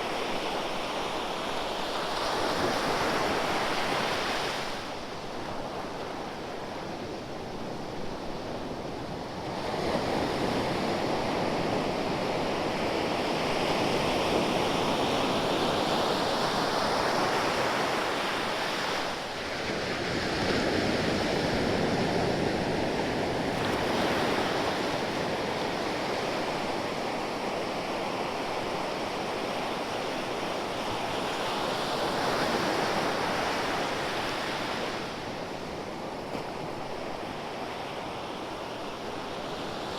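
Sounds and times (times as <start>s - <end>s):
ocean waves breaking on shore: 7.6s - 39.9s.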